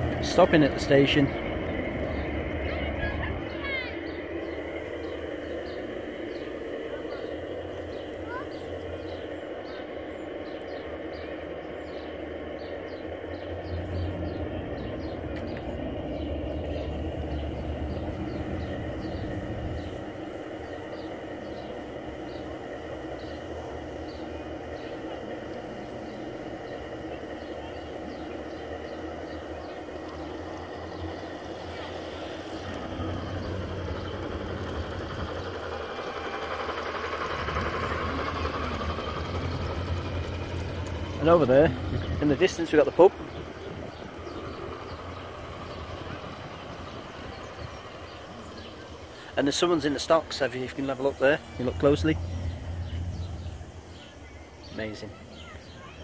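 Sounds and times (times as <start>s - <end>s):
model train humming: 0.0s - 56.0s.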